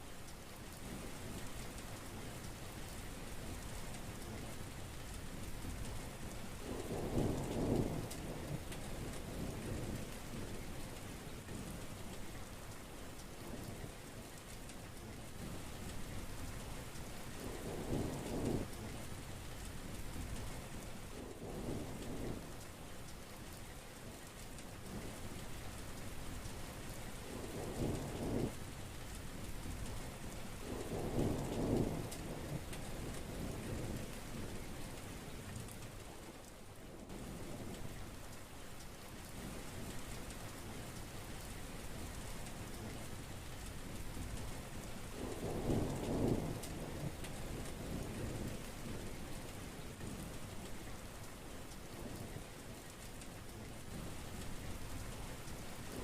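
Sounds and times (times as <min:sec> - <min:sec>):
heavy rain falling: 0:00.0 - 0:56.0
low rumbles of thunder: 0:00.8 - 0:14.4, 0:15.0 - 0:22.7, 0:23.5 - 0:38.3, 0:39.2 - 0:56.0.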